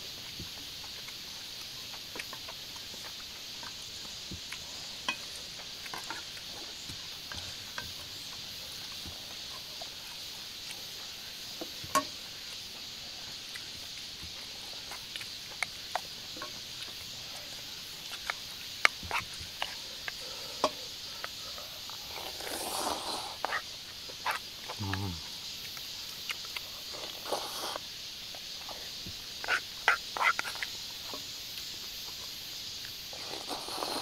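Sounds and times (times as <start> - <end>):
high insect hum: 0.0 - 34.0.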